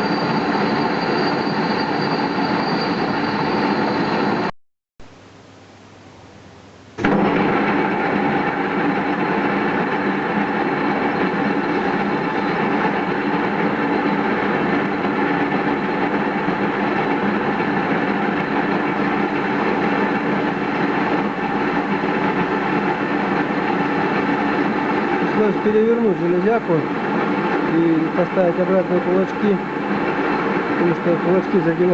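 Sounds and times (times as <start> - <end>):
metal lathe running: 0.0 - 4.5, 7.0 - 31.9.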